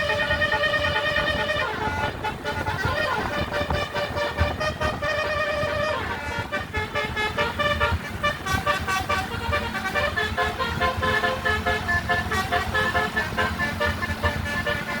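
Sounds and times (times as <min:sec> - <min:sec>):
multi-tone bus horn melody: 0:00.0 - 0:15.0.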